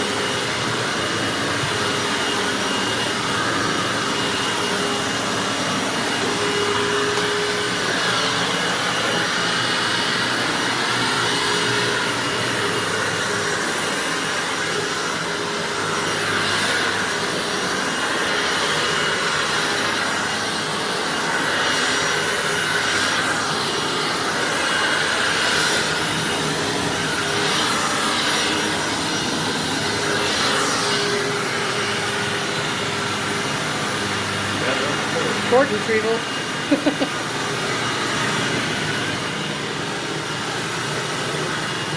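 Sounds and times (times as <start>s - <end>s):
upright vacuum running on carpet: 0.0s - 41.9s.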